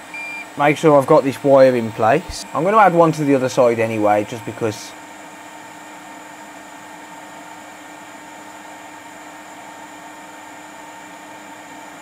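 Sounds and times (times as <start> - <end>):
fan whooshing hiss: 0.0 - 10.0
faint hum tones: 0.0 - 12.0.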